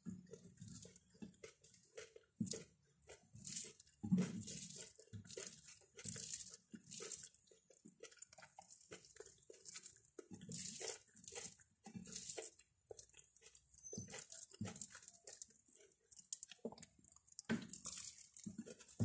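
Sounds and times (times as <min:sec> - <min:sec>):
wet squelching of fingers mixing food: 0:00.0 - 0:19.0.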